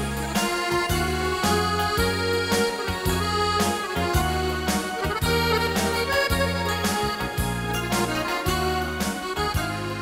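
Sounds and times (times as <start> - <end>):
dance band instrumental music: 0.0 - 10.0.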